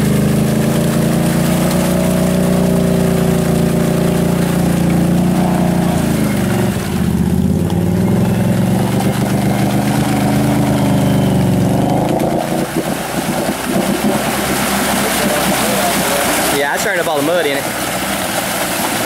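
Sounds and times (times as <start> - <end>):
engine running under load: 0.0 - 19.0
mud splashing: 0.0 - 19.0
wheels churning mud: 0.0 - 19.0.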